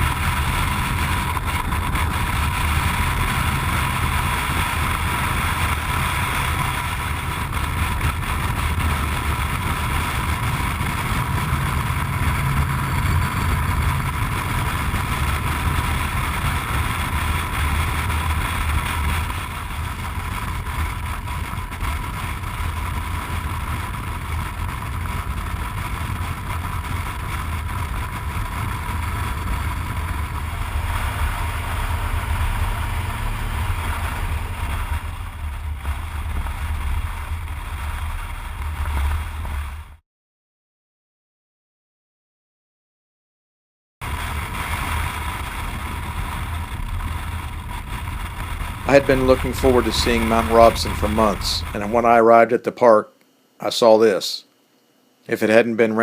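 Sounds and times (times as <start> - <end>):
motorcycle engine rumble: 0.0 - 40.0, 44.0 - 52.5
wind noise from riding: 0.0 - 40.0, 44.0 - 52.1.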